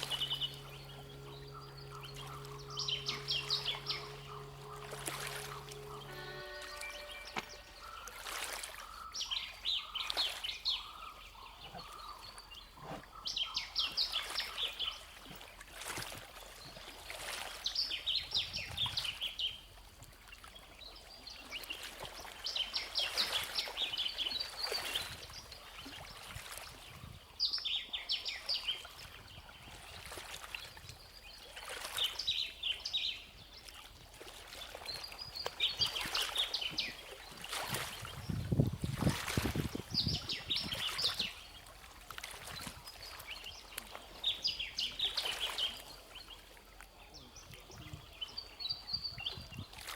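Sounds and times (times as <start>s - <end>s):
songbird singing: 0.0s - 15.6s, 16.6s - 49.9s
faint water trickle: 0.0s - 49.9s.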